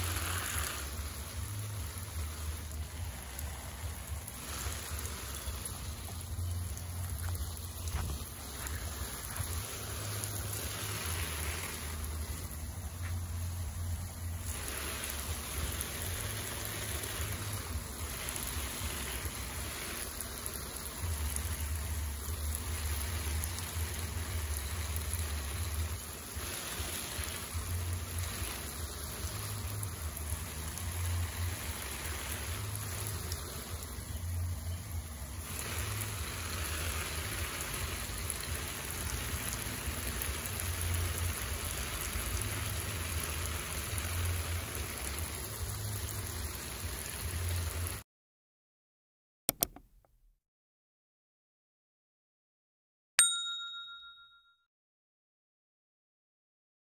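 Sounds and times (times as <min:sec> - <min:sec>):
water spraying on plants: 0:00.0 - 0:48.0.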